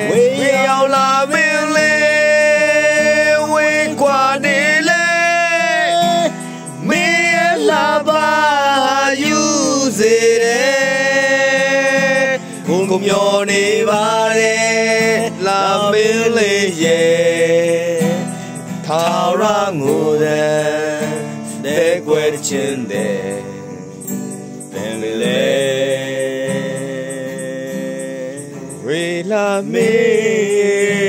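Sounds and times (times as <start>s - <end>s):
guitar accompaniment: 0.0s - 31.0s
man singing slow song: 0.0s - 31.0s.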